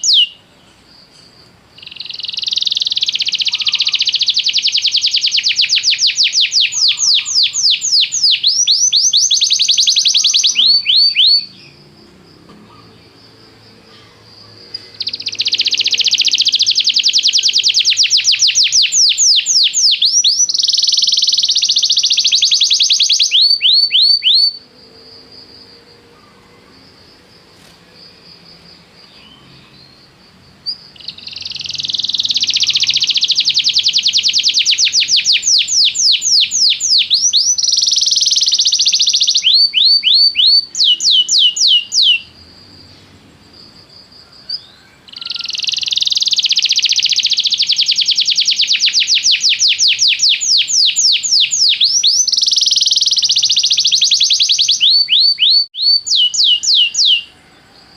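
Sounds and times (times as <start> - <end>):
canary singing trills: 0.0 - 26.8, 28.4 - 57.9.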